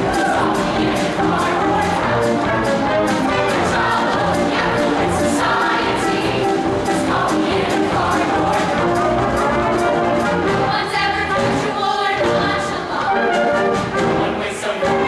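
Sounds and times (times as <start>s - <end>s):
choir singing upbeat song: 0.0s - 15.0s
instrumental accompaniment with beat: 0.0s - 15.0s.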